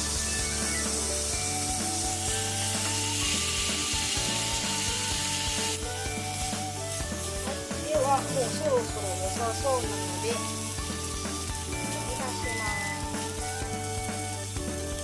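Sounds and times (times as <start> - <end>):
background music with held notes: 0.0 - 15.0
corn sizzling in a frying pan: 0.0 - 15.0.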